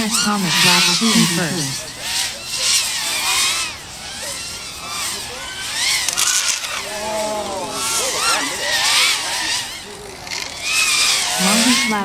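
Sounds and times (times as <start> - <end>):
racing drones whining: 0.0 - 12.0.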